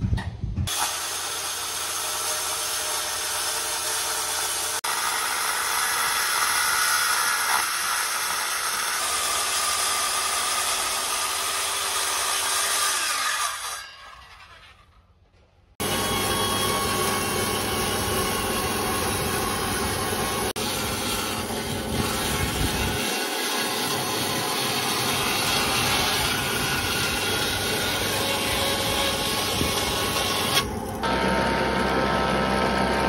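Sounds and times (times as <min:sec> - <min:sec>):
power tool cutting wood: 0:00.7 - 0:14.9, 0:15.8 - 0:33.0.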